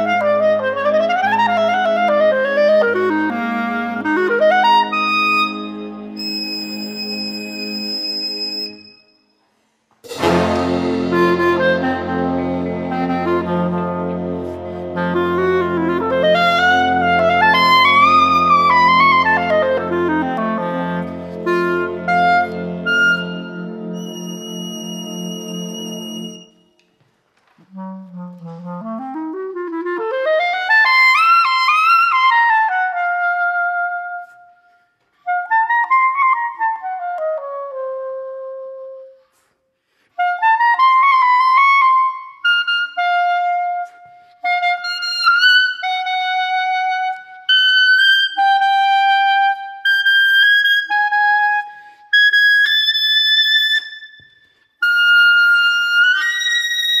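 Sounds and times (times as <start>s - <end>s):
solo clarinet playing: 0.0s - 9.2s, 10.1s - 26.9s, 27.6s - 57.0s.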